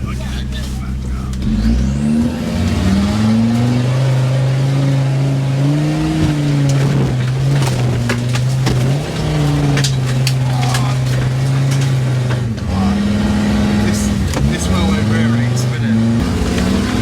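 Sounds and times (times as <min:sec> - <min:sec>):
engine revving hard: 0:01.2 - 0:17.0.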